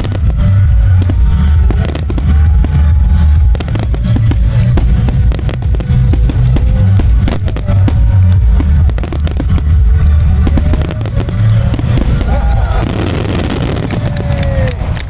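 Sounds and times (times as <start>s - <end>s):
fireworks booming and cracking: 0.0s - 15.0s
music from loudspeakers: 0.0s - 15.0s.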